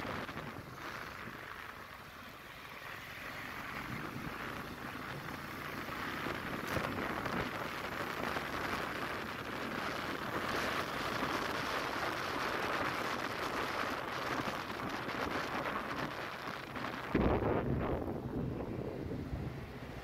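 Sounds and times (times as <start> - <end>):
road traffic: 0.0 - 20.0
air rushing past vehicle: 3.6 - 20.0.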